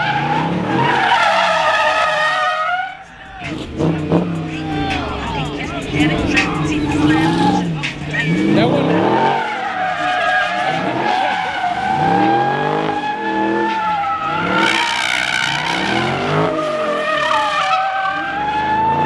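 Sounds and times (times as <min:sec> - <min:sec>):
car engine revving: 0:00.0 - 0:19.0
tyres squealing: 0:00.0 - 0:19.0.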